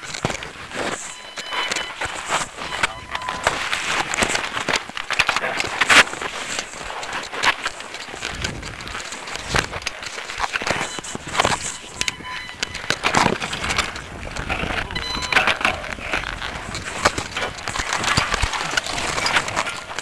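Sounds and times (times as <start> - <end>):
mountain bike rattling: 0.0 - 20.0
tyres crunching through dirt: 0.0 - 20.0.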